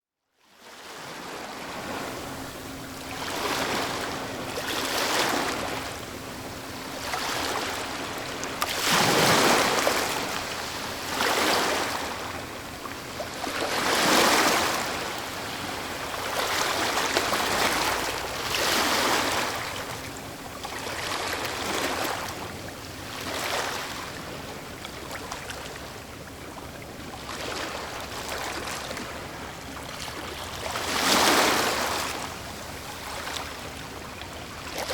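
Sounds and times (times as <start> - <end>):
waves breaking on shore: 0.6 - 34.9.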